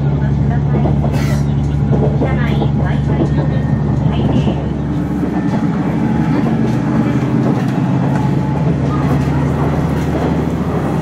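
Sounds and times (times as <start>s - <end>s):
diesel engine drone: 0.0s - 11.0s
rail and wheel noise: 0.0s - 11.0s.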